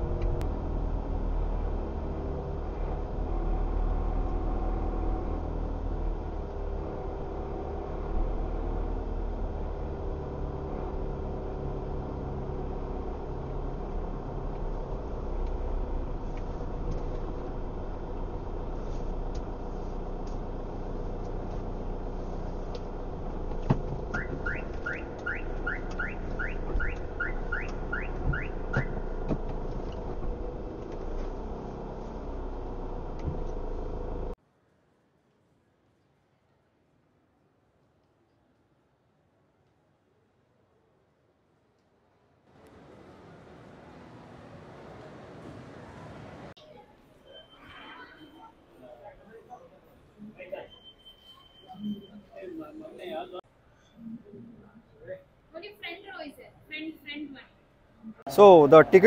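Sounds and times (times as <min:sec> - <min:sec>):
car engine and tyres rumbling: 0:00.0 - 0:34.4, 0:42.5 - 0:59.0.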